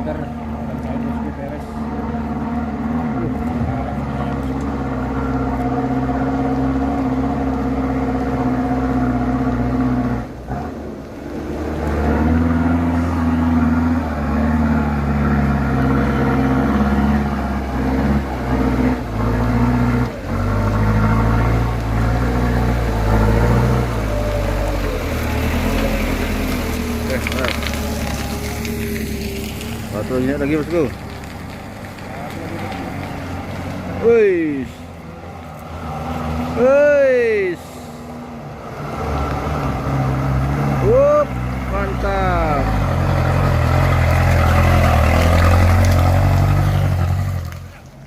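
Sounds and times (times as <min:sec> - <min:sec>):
diesel truck engine under load: 0:00.0 - 0:48.0.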